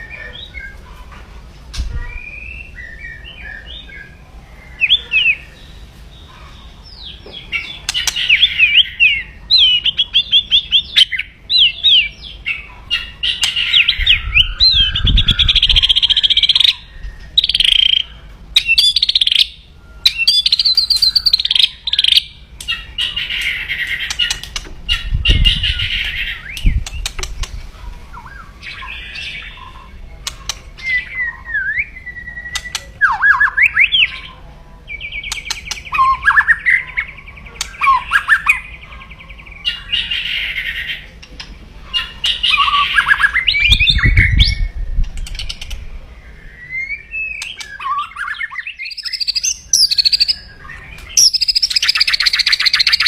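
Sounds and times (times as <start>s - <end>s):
bird singing warbled phrases: 0.0s - 53.0s
rapid rattling bird trills: 2.1s - 53.0s.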